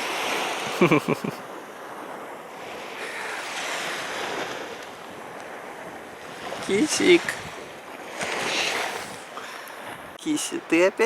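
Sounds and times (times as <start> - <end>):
sea surf washing onto beach: 0.0 - 11.0.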